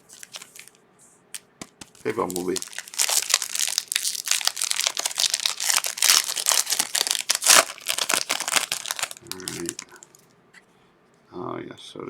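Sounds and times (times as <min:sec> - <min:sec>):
wrapper crinkling: 0:00.0 - 0:10.2.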